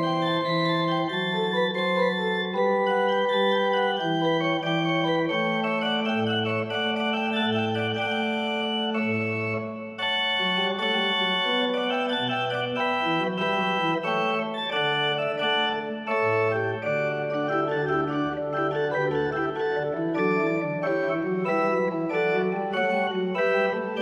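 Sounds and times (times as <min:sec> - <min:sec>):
chest organ chords: 0:00.0 - 0:24.0.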